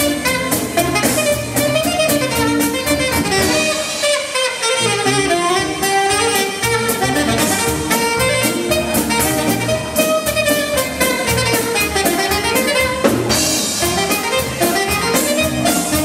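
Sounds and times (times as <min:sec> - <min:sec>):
bass: 0:00.0 - 0:16.0
drums: 0:00.0 - 0:16.0
saxophone polka melody: 0:00.0 - 0:16.0.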